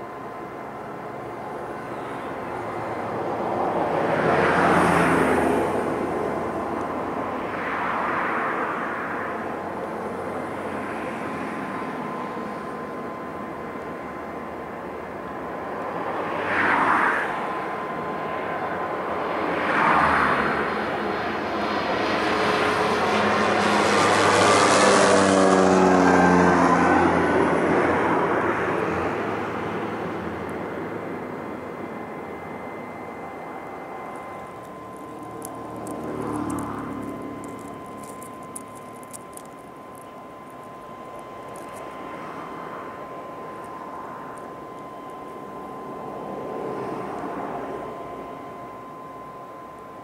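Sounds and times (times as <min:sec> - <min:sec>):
thin whine: 0:00.0 - 0:50.0
turboprop engine and propeller: 0:00.0 - 0:50.0.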